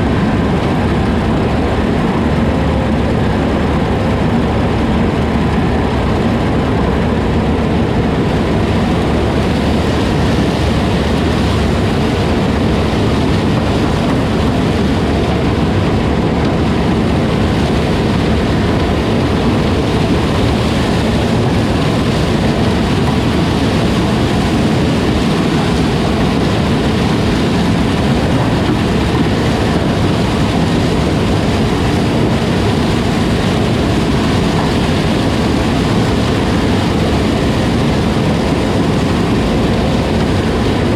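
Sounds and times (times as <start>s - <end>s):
diesel farm machinery droning: 0.0s - 40.9s.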